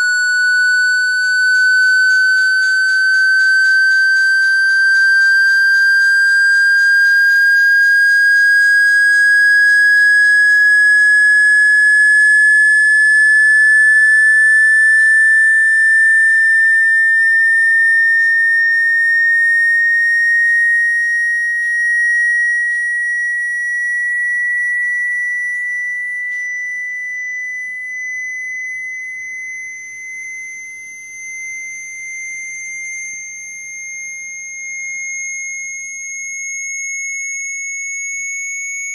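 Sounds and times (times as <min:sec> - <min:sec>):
rising electronic sine tone: 0:00.0 - 0:38.9.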